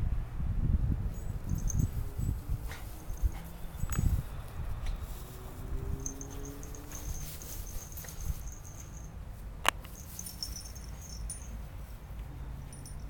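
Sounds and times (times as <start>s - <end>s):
low steady rumble: 0.0s - 13.0s
dog paws pattering on grass: 1.4s - 12.4s.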